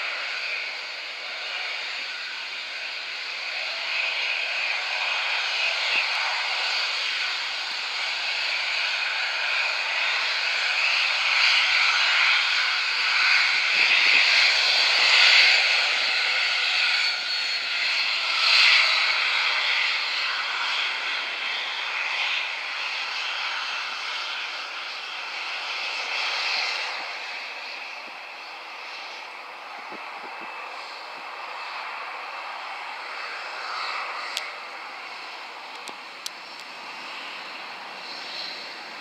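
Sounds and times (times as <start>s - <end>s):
jet engines at takeoff: 0.0s - 39.0s.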